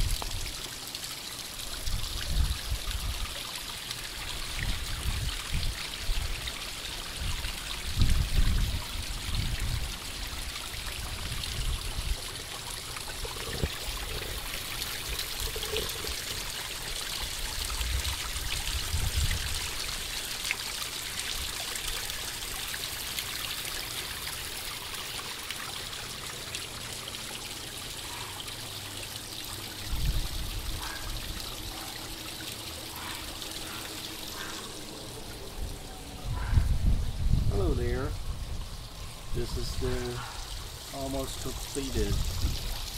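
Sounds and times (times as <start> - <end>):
water trickling over rocks: 0.0 - 42.9.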